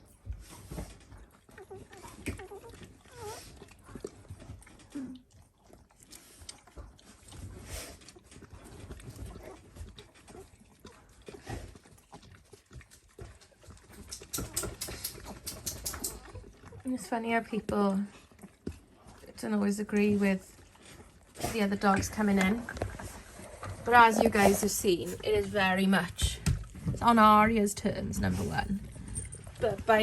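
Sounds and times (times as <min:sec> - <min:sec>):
puppies squeaking and grunting: 0:00.4 - 0:30.0.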